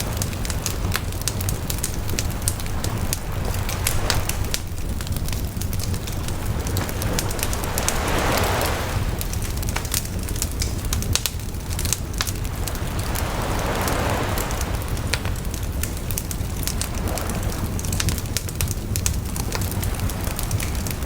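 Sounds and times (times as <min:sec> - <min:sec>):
campfire crackling and popping: 0:00.0 - 0:21.0
low rumble of surf: 0:00.0 - 0:21.0
ocean waves washing in: 0:00.0 - 0:21.0.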